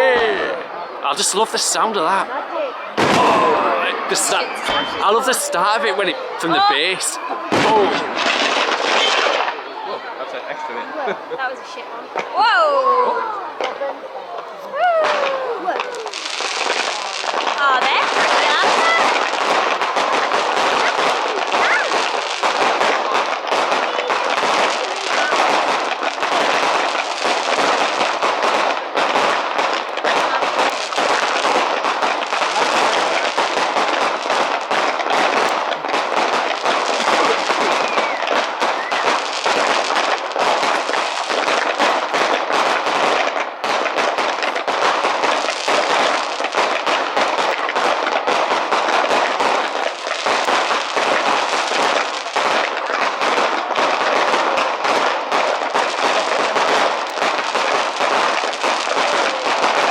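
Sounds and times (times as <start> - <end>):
fireworks crackling bangs: 0.0 - 59.9.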